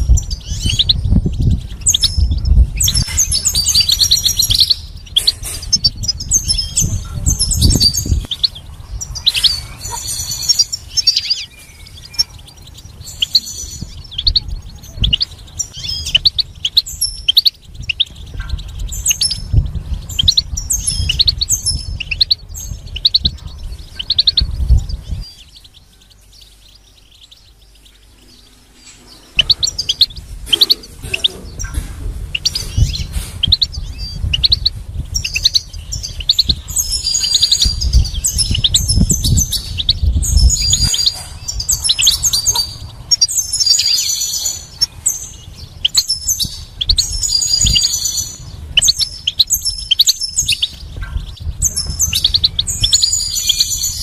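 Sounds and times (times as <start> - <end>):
finch singing high chirps: 0.0 - 54.0.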